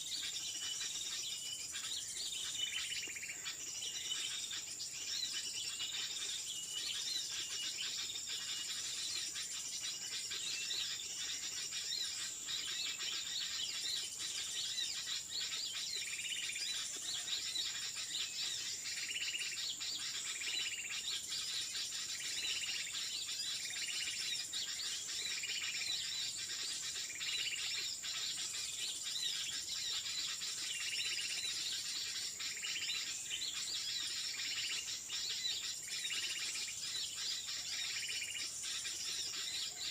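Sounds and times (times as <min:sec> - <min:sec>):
birds chirping and calling: 0:00.0 - 0:39.9
high insect drone: 0:07.3 - 0:39.9.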